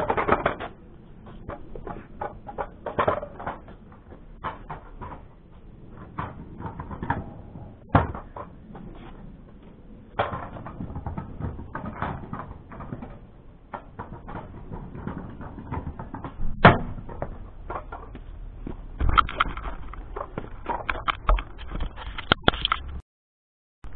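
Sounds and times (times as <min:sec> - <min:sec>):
scooter knocking on pavement: 0:00.0 - 0:21.4
scooter rattling over paving: 0:00.0 - 0:22.9.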